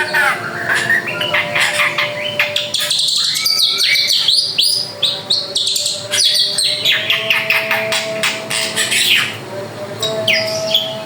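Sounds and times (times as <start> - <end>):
bird singing chirps and whistles: 0.0 - 9.4, 10.2 - 11.0.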